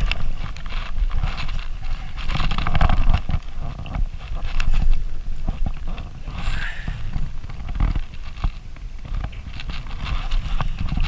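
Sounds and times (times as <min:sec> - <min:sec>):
gear knocking against plastic kayak: 0:00.0 - 0:11.0
wind rumbling on microphone: 0:00.0 - 0:11.0.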